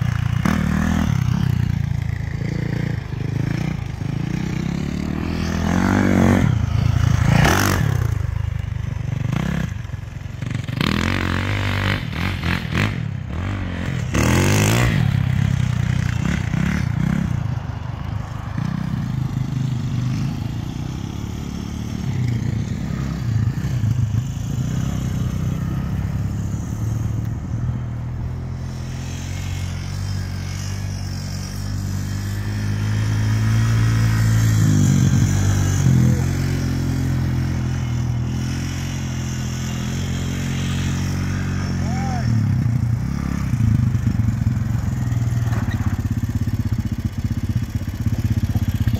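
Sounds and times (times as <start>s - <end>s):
dirt bike revving: 0.0s - 48.9s
quad engine hum: 0.0s - 48.9s.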